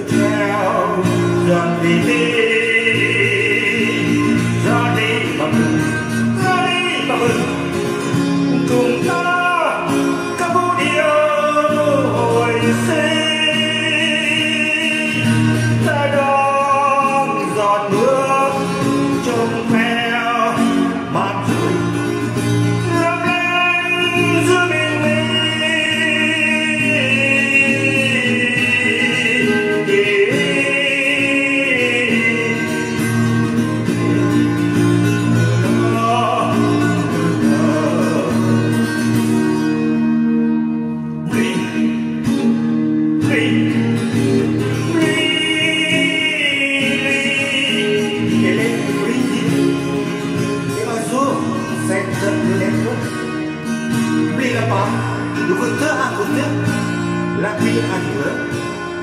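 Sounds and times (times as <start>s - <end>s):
acoustic guitar: 0.0s - 59.0s
man singing: 0.0s - 59.0s.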